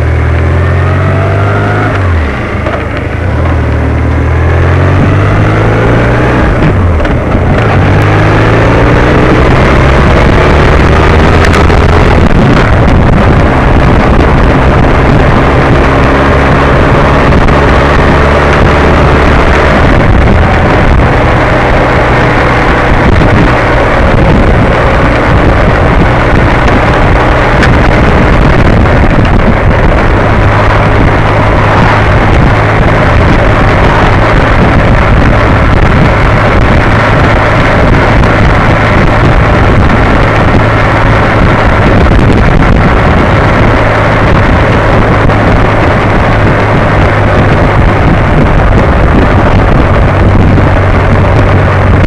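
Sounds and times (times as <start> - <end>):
engine drone: 0.0 - 52.0
wind rush on microphone: 0.0 - 52.0.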